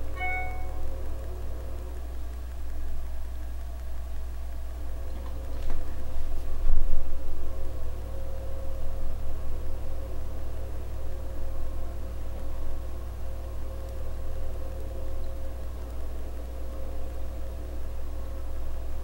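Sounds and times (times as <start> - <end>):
computer cooling fan running: 0.0 - 19.0.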